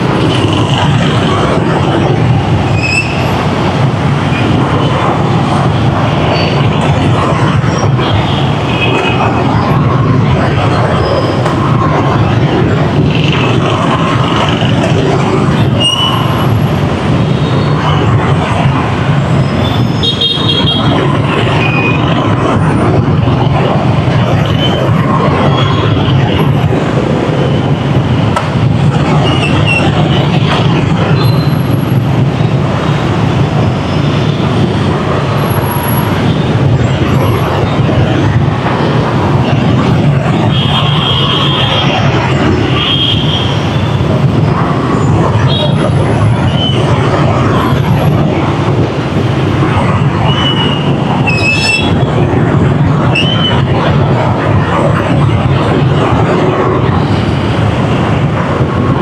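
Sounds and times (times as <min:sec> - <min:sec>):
heavy street traffic: 0:00.0 - 0:59.0.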